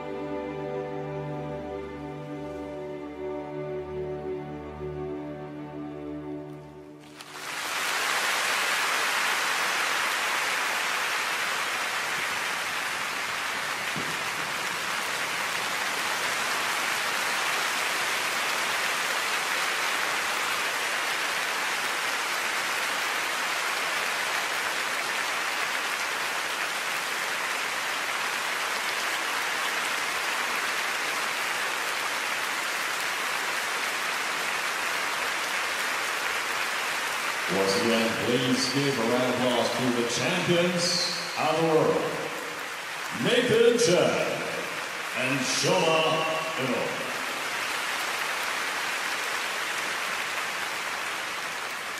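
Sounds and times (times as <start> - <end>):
audience applauding: 7.0 - 51.9.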